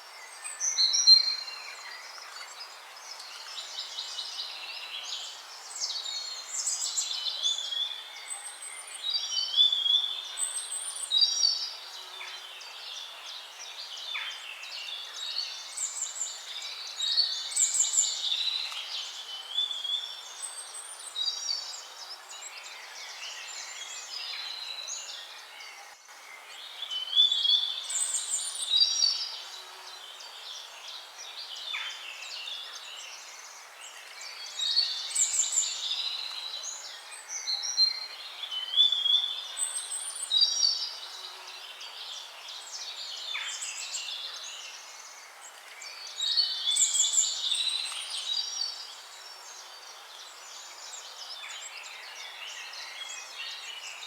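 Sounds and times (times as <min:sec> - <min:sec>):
faint steady hiss: 0:00.0 - 0:54.0
songbirds singing and chirping: 0:00.0 - 0:54.0.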